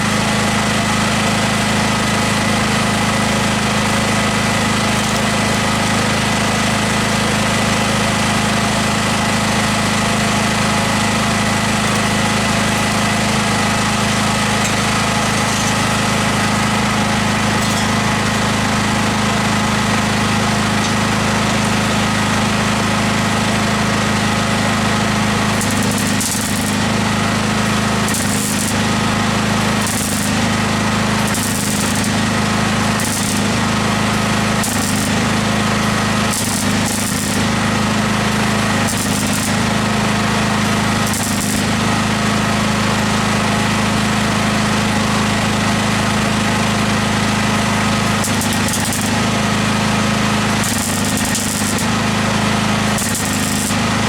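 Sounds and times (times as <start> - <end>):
welding machine hum: 0.0 - 54.0
welding crackling sizzle: 2.3 - 7.1, 10.6 - 43.1, 46.9 - 54.0.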